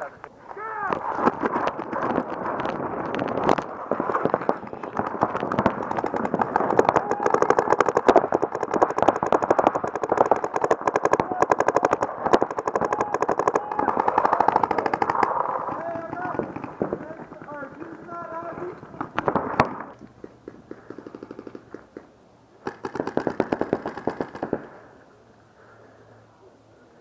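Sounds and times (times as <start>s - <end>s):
paintball markers firing rapid shots: 1.0s - 24.7s.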